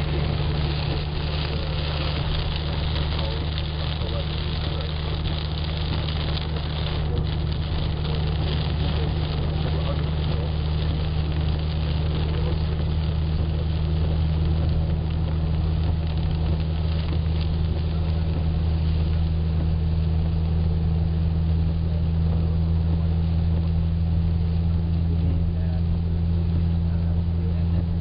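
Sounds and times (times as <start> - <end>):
engine and road drone: 0.0 - 28.0
rain and tyre spray hiss: 0.0 - 28.0.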